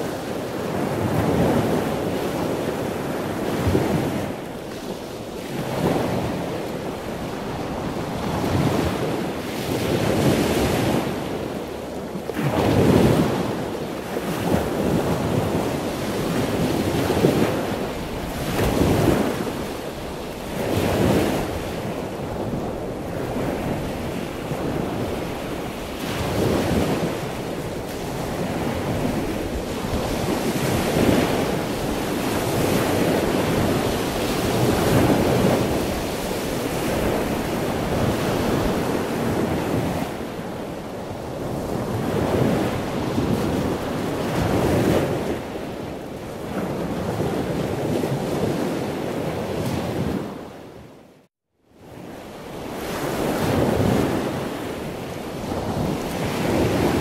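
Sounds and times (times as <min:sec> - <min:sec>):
ocean waves surging: 0:00.0 - 0:50.5, 0:52.4 - 0:57.0.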